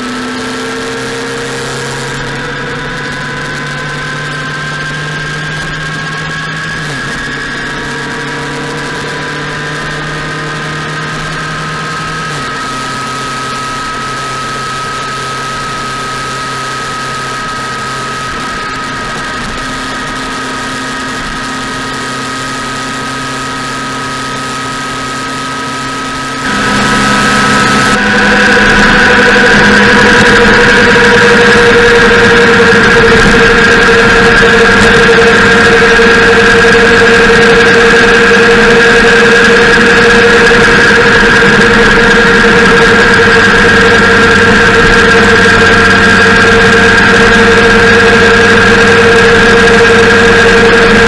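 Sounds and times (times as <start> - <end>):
motorcycle engine cruising: 0.0 - 51.0.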